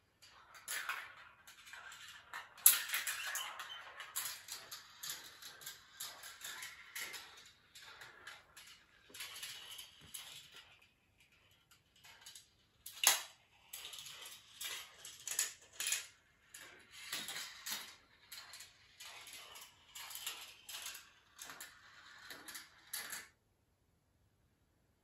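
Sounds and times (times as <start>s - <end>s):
marbles rolling and clattering: 0.1s - 23.4s.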